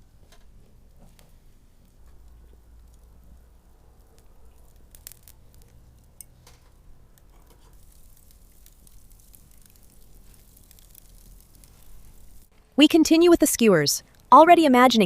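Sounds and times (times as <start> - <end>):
meat threaded onto skewers: 0.2 - 12.5.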